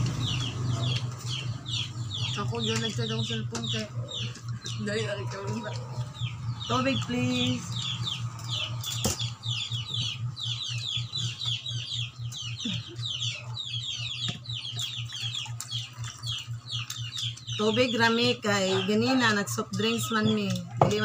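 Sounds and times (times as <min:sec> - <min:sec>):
chicks peeping: 0:00.0 - 0:21.0
steady low hum: 0:00.0 - 0:21.0.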